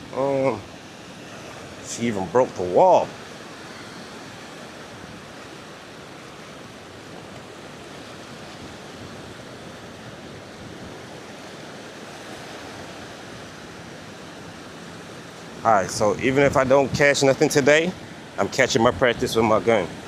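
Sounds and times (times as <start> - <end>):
sea surf and waves: 0.0 - 20.0.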